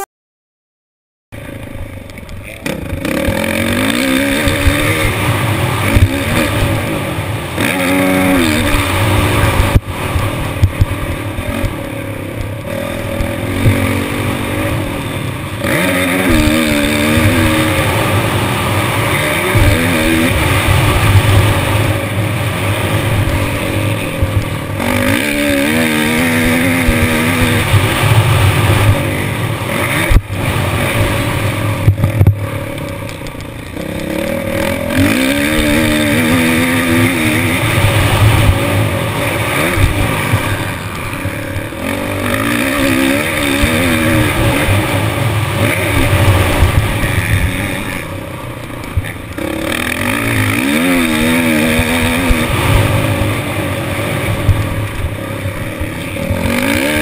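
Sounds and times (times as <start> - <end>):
motocross bike engine revving: 1.4 - 57.0.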